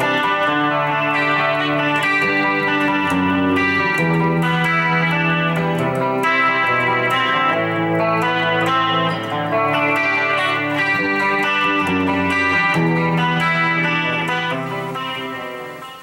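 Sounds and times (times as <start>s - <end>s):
electric guitar ringing chords: 0.0s - 16.0s.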